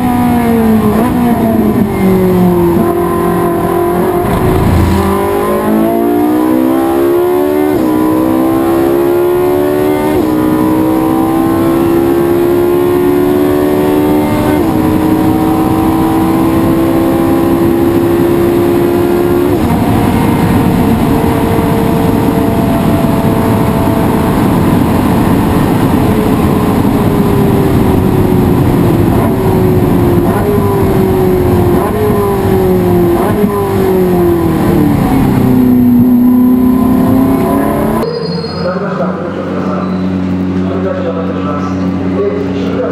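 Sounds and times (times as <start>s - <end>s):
race car engine shifting gears: 0.3s - 38.0s.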